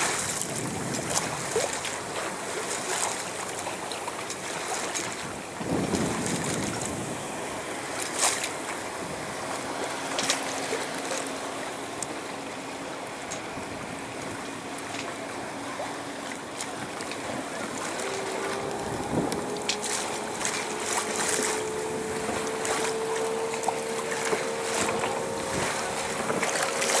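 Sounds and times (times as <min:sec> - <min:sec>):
seawater rushing and splashing: 0:00.0 - 0:27.0
wind: 0:00.0 - 0:27.0.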